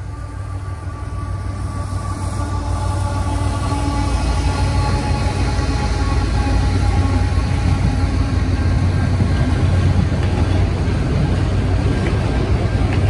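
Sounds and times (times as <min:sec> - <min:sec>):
diesel locomotive rumble: 0:00.0 - 0:13.0
freight cars rolling on rails: 0:02.0 - 0:13.0.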